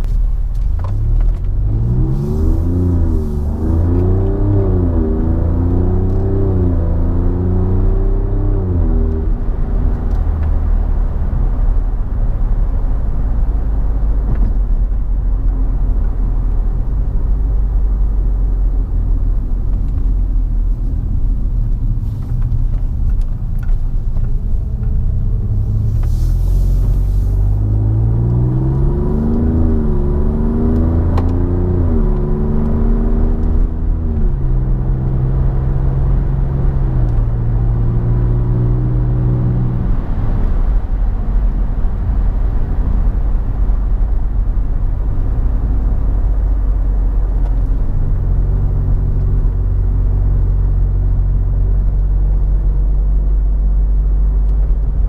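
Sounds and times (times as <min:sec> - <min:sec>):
car engine heard from cabin: 0:00.0 - 0:55.0.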